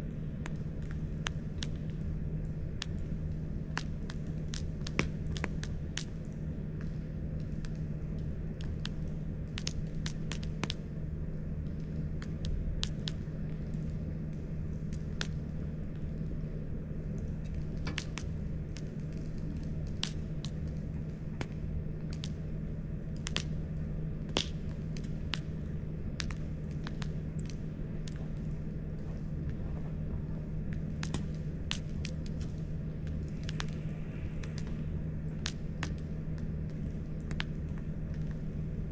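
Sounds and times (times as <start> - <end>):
campfire crackling: 0.0 - 38.9
low hum: 0.0 - 38.9.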